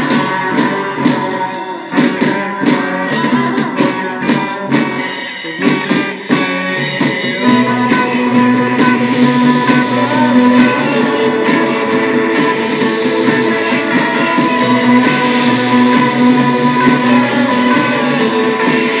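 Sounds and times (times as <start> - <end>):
psychedelic rock song: 0.0 - 19.0.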